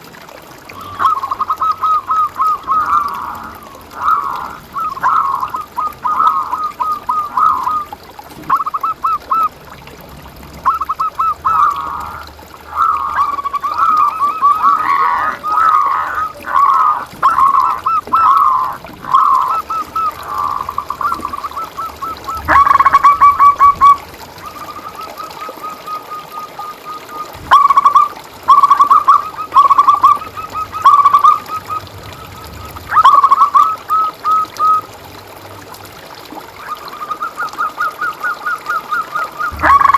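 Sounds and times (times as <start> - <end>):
doves cooing: 0.6 - 35.4, 36.4 - 39.9.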